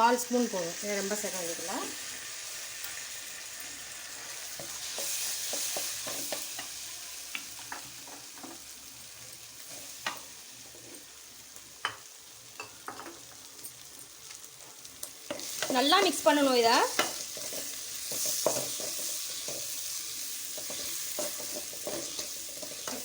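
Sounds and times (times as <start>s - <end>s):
food sizzling in oil in a pan: 0.0s - 23.0s.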